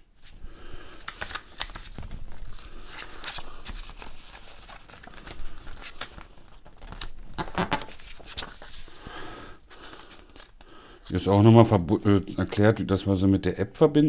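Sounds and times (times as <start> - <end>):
paper rustling and pages turning: 0.2 - 12.8.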